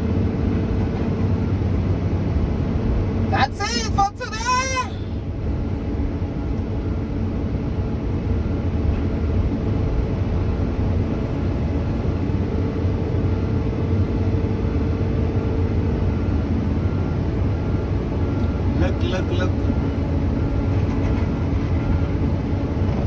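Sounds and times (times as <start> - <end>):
diesel engine rumbling: 0.0 - 23.0
faint steady whine: 0.0 - 23.0.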